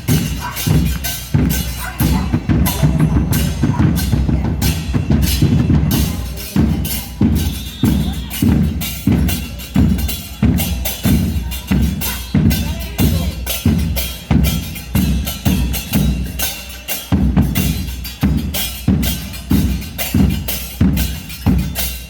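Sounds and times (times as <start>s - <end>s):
bass drums in parade rhythm: 0.0s - 22.0s.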